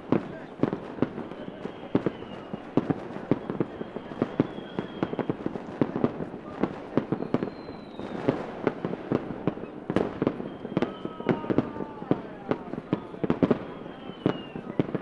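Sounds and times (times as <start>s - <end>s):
fireworks pops and cracks: 0.0s - 15.0s
fireworks whistles: 0.0s - 15.0s.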